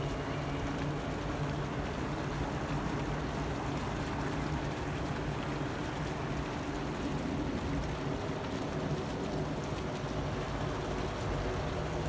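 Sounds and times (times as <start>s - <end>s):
fountain splashing into pond: 0.0s - 12.0s.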